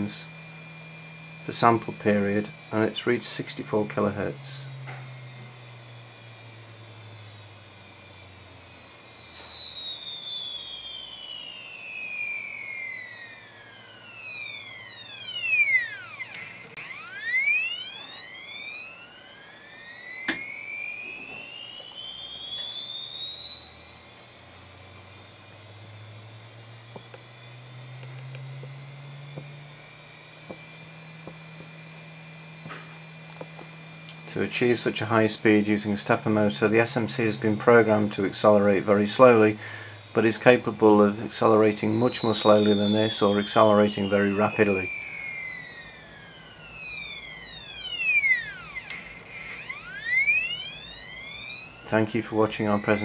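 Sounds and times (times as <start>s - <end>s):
stepper motor whine: 0.0s - 53.0s.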